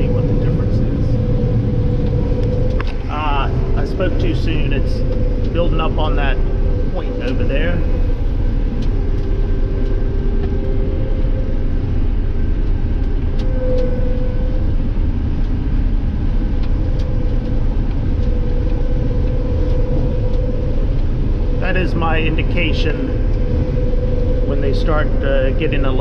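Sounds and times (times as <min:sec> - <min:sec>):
combine harvester rumble: 0:00.0 - 0:26.0
faint steady hums: 0:00.0 - 0:26.0.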